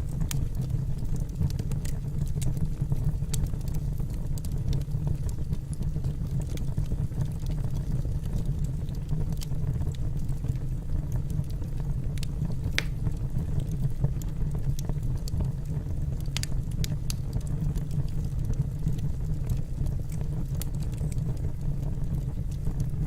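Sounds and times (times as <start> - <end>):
logs burning with low rumble: 0.0 - 23.0
wood crackling and popping: 0.0 - 23.0.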